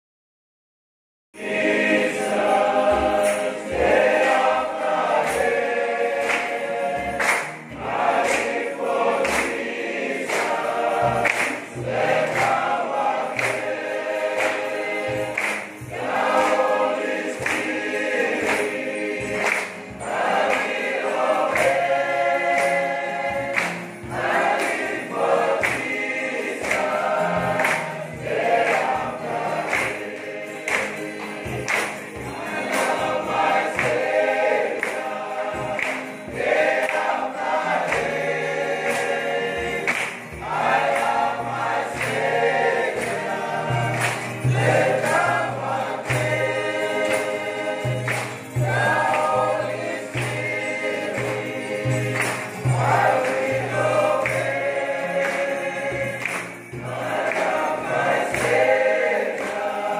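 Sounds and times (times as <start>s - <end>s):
congregation singing a hymn: 1.4s - 59.9s
sharp percussive strikes: 1.4s - 59.9s.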